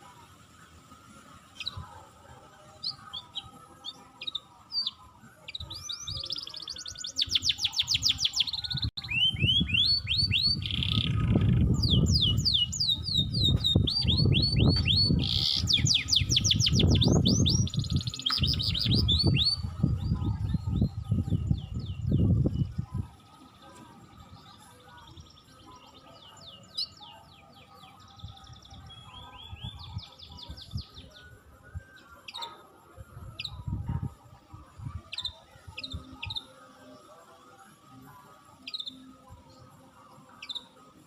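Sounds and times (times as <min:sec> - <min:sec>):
songbirds singing: 0:00.0 - 0:41.0.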